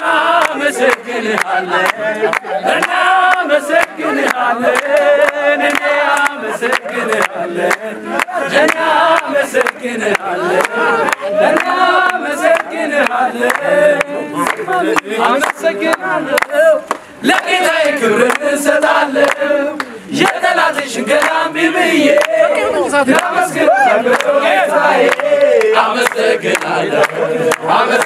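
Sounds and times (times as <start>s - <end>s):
men singing in chorus: 0.0s - 28.0s
hand claps: 0.3s - 18.6s, 19.2s - 21.4s, 23.2s - 23.4s, 25.0s - 28.0s.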